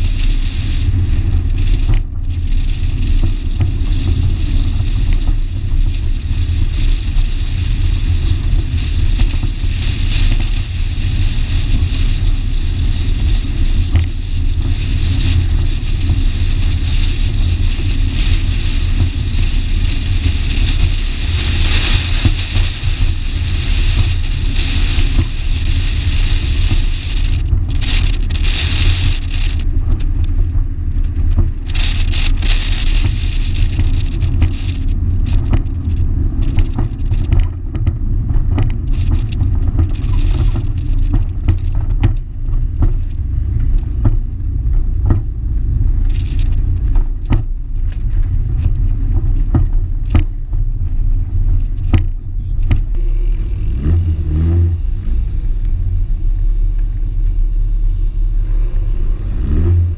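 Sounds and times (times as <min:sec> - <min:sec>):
car engine deep rumble: 0:00.0 - 0:59.9
road and wind noise: 0:00.0 - 0:59.9.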